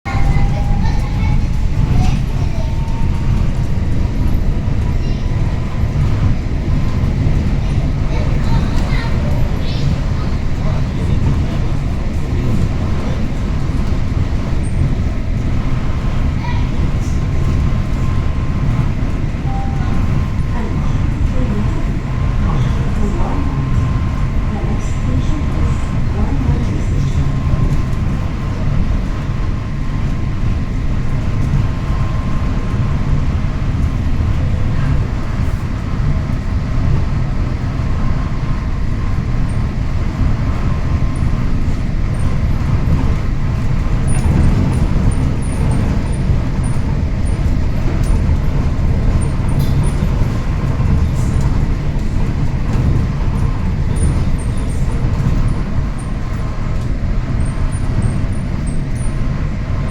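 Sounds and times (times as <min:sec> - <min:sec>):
monorail train rumbling: 0:00.0 - 0:59.9.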